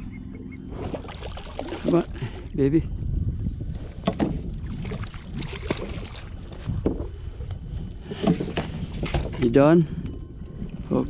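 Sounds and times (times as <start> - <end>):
water against kayak: 0.0 - 11.0
wind buffeting microphone: 0.0 - 11.0.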